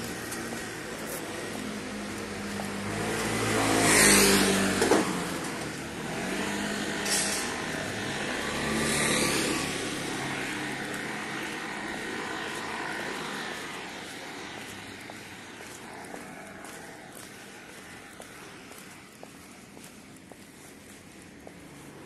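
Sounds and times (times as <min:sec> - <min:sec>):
vehicles passing on street: 0:00.0 - 0:22.0.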